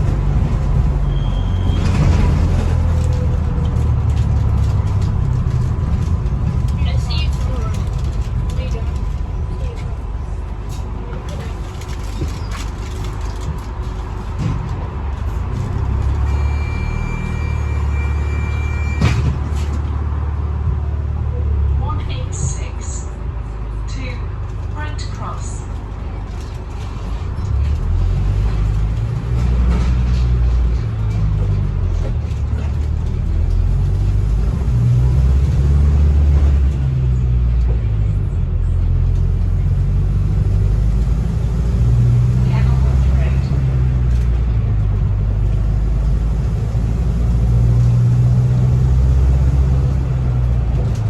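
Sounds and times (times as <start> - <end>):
bus engine droning: 0.0 - 51.0.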